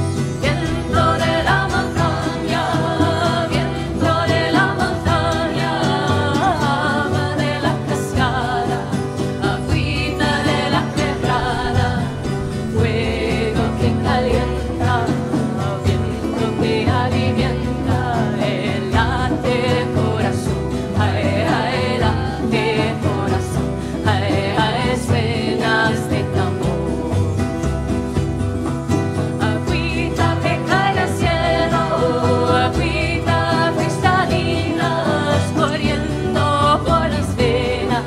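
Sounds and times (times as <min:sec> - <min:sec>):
acoustic guitar strumming: 0:00.0 - 0:38.0
hand drum beat: 0:00.0 - 0:38.0
people singing: 0:00.0 - 0:38.0.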